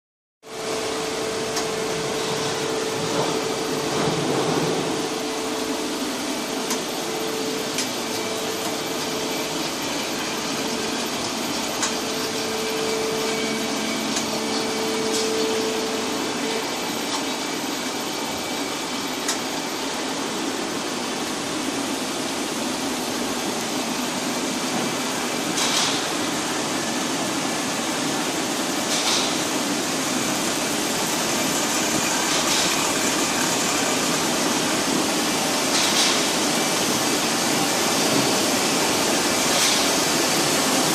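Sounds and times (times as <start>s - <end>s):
extrusion machine running: 0.5s - 40.9s.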